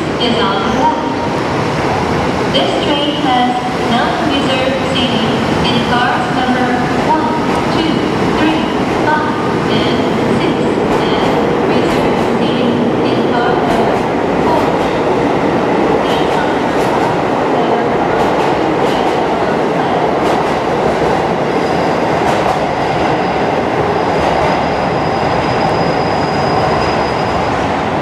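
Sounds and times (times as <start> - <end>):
train rumbling on tracks: 0.0 - 28.0.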